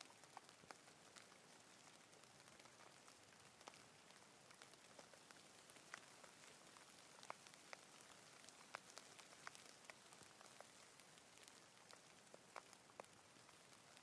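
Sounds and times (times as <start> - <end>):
faint rain hissing: 0.0 - 14.0
raindrops striking close by: 0.0 - 14.0.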